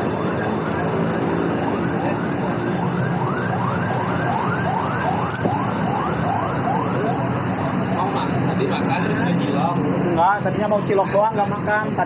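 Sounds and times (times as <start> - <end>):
road traffic: 0.0 - 12.0
vehicle siren sweeping: 0.0 - 12.0.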